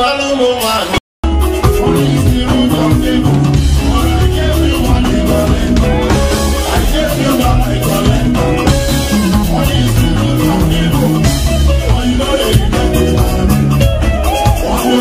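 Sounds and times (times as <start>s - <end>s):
live band music with singer: 0.0s - 15.0s.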